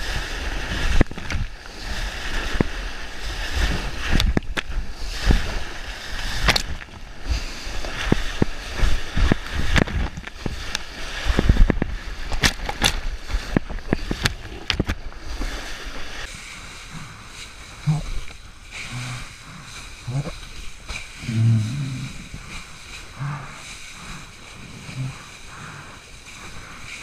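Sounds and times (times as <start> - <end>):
water splashes and slaps: 0.0 - 27.0.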